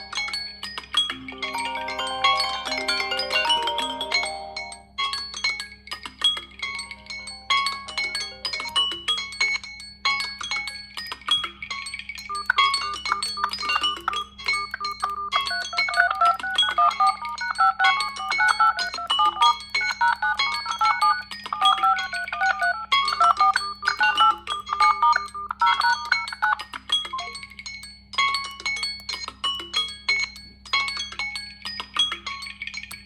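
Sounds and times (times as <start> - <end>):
smartphone ringtone melody: 0.0 - 5.6, 6.4 - 11.0, 11.7 - 28.8.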